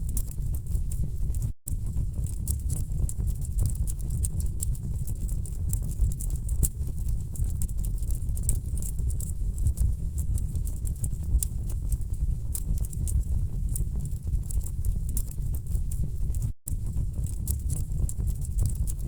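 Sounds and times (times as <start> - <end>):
low rumble of flames: 0.0 - 19.0.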